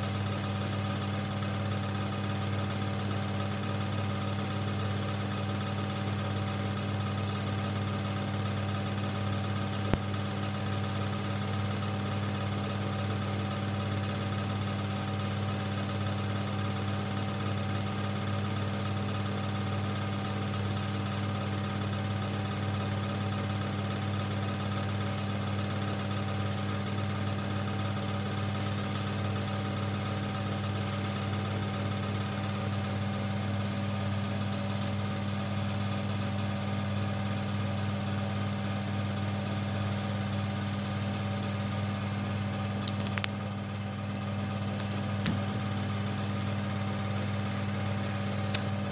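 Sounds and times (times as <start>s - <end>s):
film projector motor whirring: 0.0s - 48.9s.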